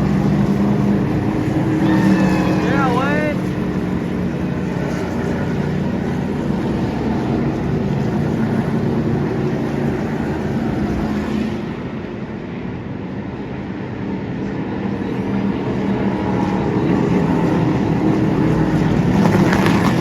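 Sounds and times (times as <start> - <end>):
race truck engines droning: 0.0 - 13.0, 13.8 - 20.0.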